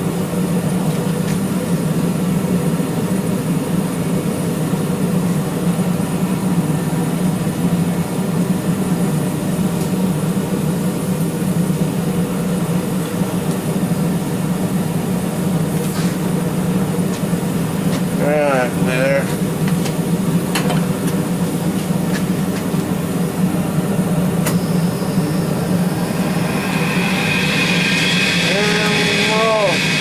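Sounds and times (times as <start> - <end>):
forge equipment drone: 4.7 - 30.0.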